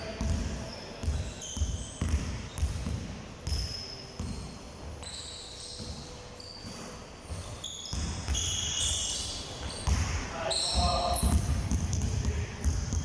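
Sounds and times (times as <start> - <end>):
basketballs bouncing on court: 0.0 - 13.0
sneakers squeaking on floor: 0.0 - 13.0.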